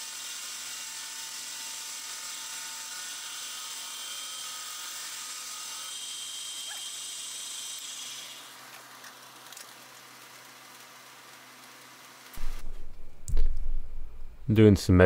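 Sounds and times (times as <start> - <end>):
milling cutter whining through steel: 0.0 - 14.5.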